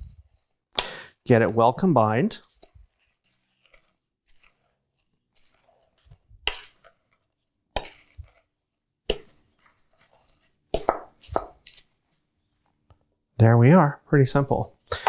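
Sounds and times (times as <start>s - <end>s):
wooden spoon stirring dry mixture: 0.0s - 13.0s.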